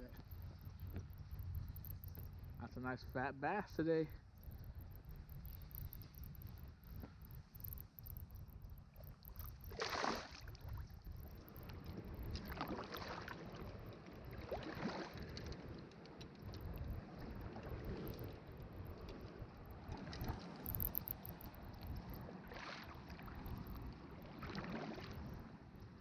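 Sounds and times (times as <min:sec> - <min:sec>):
wind rumble on microphone: 0:00.0 - 0:26.0
paddle strokes swishing water: 0:04.1 - 0:20.6, 0:21.6 - 0:26.0.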